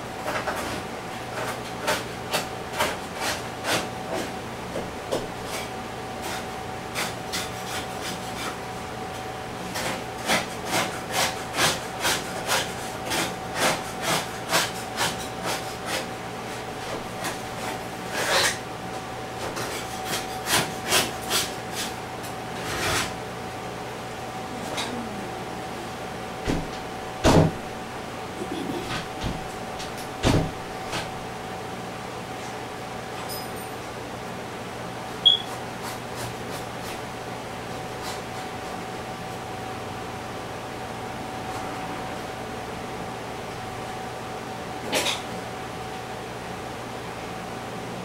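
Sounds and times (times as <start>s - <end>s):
steady electrical hum: 0.0s - 48.0s.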